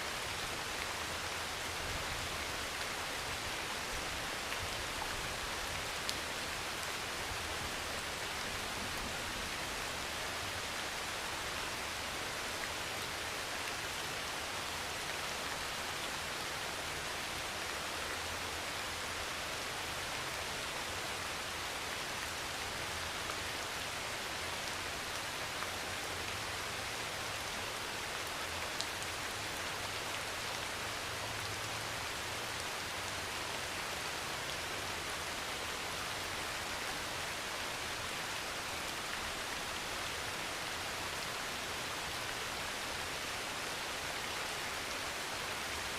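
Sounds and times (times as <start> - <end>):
heavy rain on metal roof: 0.0 - 45.9.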